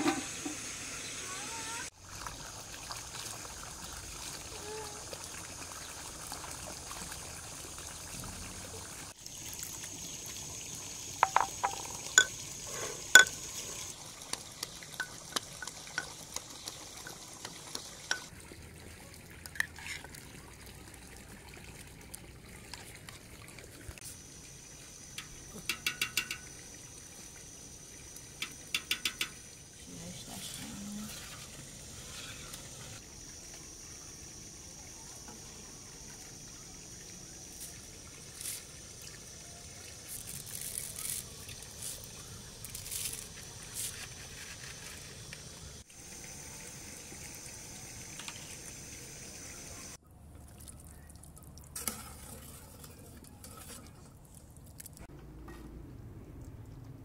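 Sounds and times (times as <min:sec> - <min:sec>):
water running into a pool: 0:00.0 - 0:55.1.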